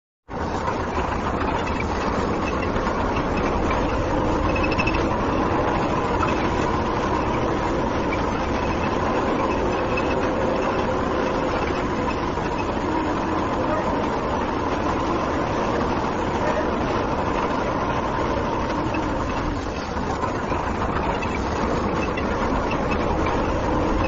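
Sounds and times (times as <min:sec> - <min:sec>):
tractor engine running: 0:00.3 - 0:24.0.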